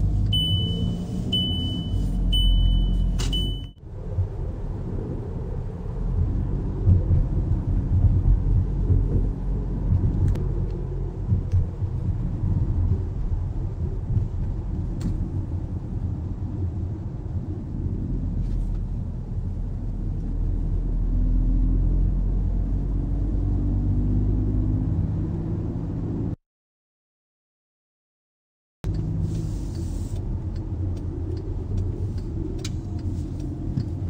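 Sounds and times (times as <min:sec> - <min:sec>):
car engine and road rumble: 0:00.0 - 0:26.4, 0:28.8 - 0:34.0.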